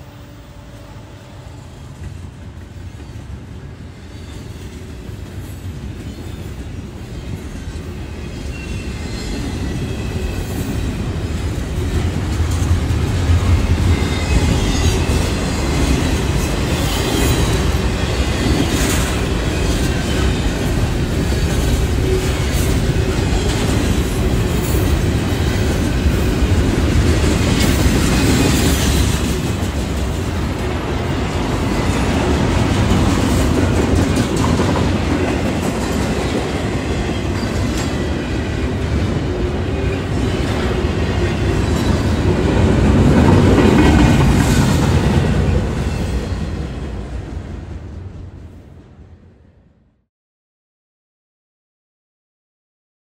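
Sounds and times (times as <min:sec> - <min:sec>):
freight train wheels rumbling: 0:00.0 - 0:49.2.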